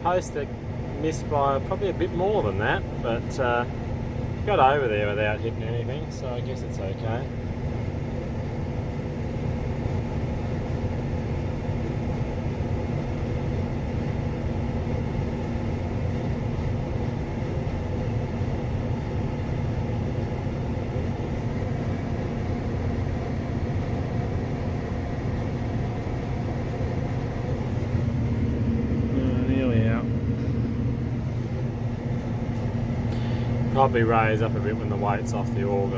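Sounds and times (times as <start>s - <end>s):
combine harvester running: 0.0s - 35.9s.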